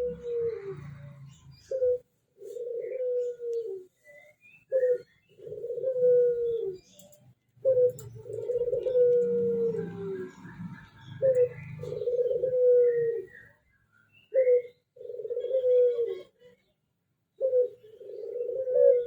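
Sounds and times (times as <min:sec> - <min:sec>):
dove cooing: 0:00.0 - 0:13.5, 0:14.3 - 0:16.5, 0:17.3 - 0:19.0.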